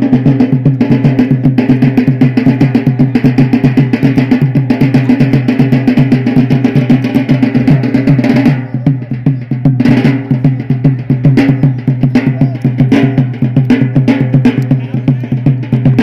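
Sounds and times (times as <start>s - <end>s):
drums beating a dance rhythm: 0.0s - 16.0s.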